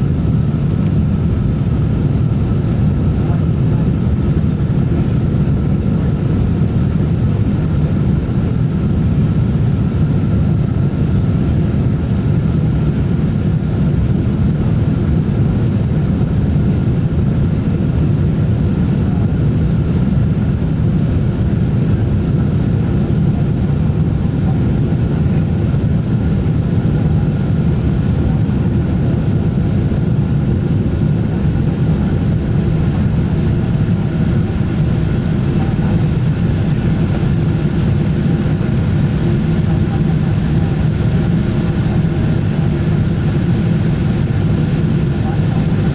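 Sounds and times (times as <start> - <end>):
airliner engines droning: 0.0 - 45.9.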